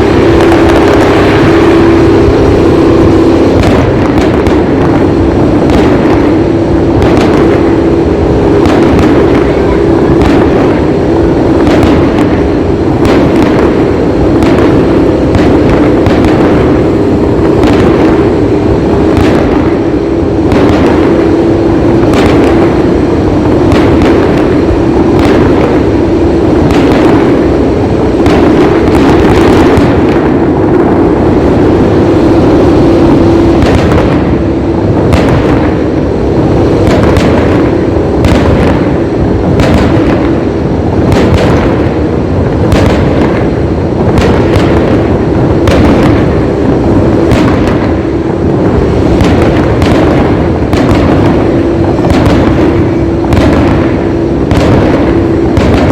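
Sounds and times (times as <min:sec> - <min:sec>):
fireworks bangs and crackles: 0:00.0 - 0:55.9
steady drone: 0:00.0 - 0:55.9.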